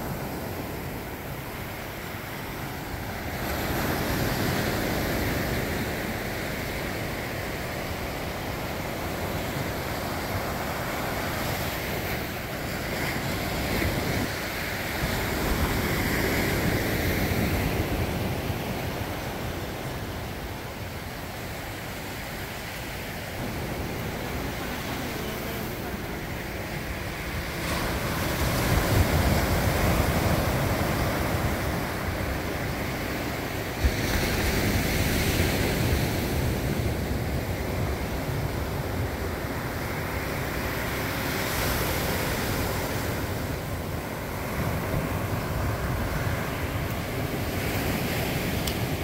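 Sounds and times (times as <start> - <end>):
ocean surf breaking on beach: 0.0 - 49.0.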